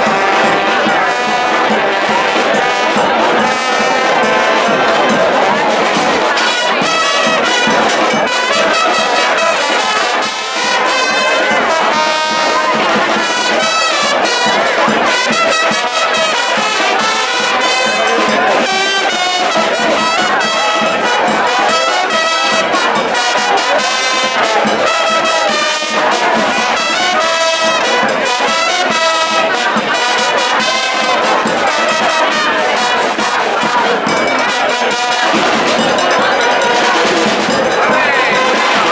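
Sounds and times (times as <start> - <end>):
percussion beat: 0.0 - 38.9
trumpets and trombones: 0.0 - 38.9.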